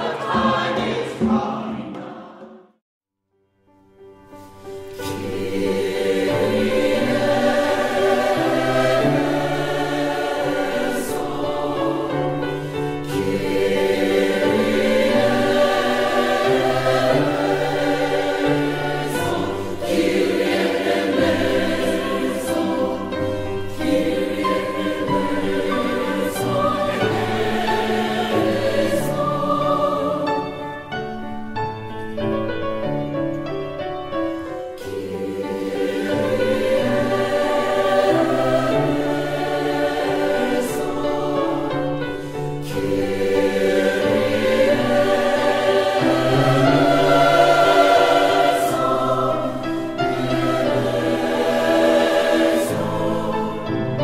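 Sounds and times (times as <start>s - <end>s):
choir singing held chords: 0.0s - 2.8s, 5.0s - 31.1s, 34.7s - 54.0s.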